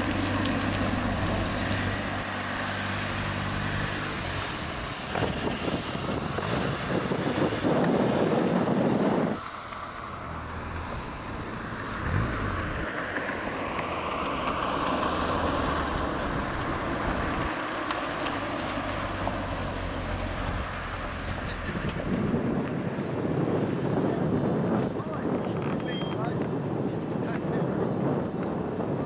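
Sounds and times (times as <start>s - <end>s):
car engine passing by: 0.0s - 25.4s
wind buffeting microphone: 0.0s - 29.0s.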